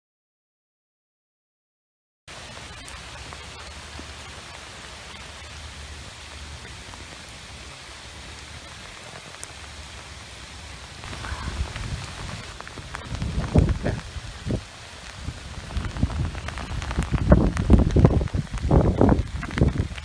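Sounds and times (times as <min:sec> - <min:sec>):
rain falling on water: 0:02.3 - 0:20.0.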